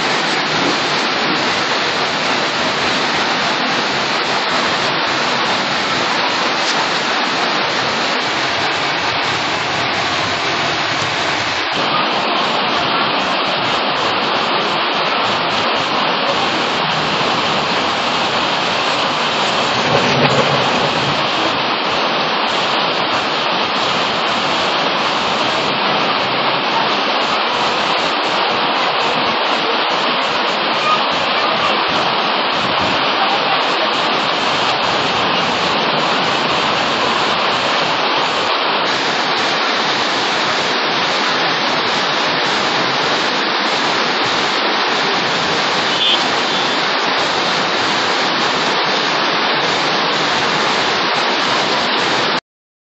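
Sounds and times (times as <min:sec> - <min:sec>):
heavy rain falling: 0:00.0 - 0:52.4.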